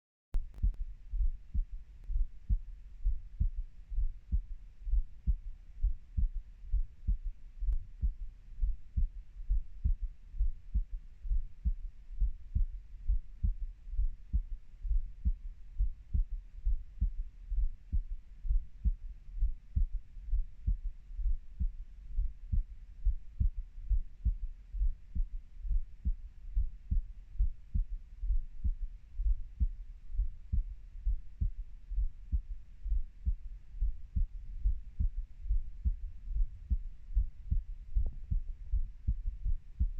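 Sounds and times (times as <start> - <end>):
heartbeat thumps: 0.4 - 39.9.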